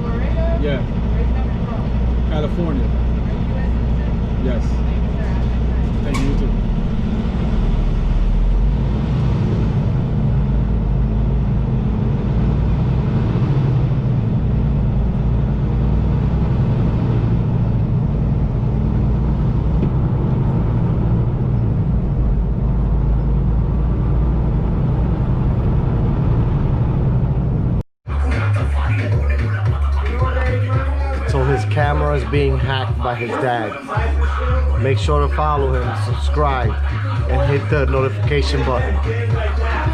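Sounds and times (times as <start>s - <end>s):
truck diesel engine pulling away: 0.0s - 39.9s.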